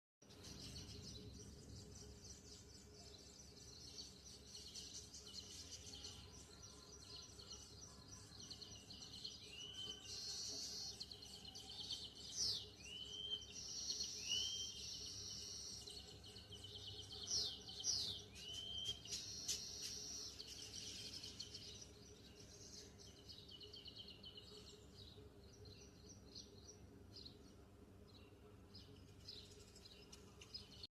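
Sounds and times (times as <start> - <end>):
birds chirping: 0.2 - 30.9.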